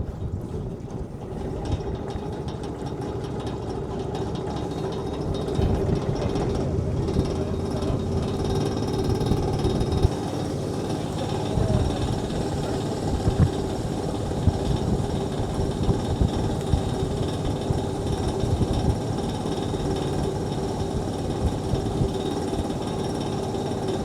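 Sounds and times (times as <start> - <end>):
boat engine rumbling: 0.0 - 24.0.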